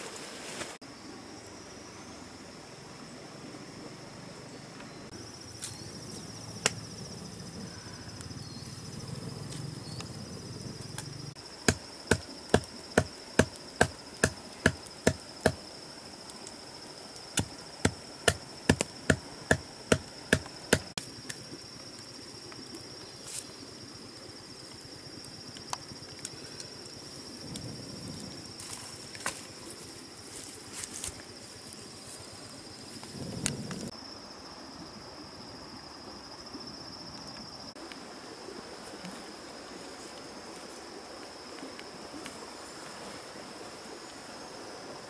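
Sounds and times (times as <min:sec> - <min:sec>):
insects buzzing: 0:00.0 - 0:45.0.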